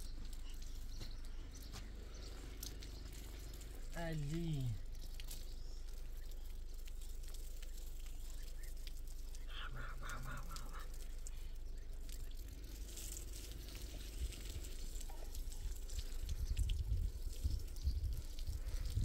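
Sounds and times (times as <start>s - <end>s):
low steady rumble: 0.0s - 19.0s
water trickling onto soil: 0.0s - 19.0s.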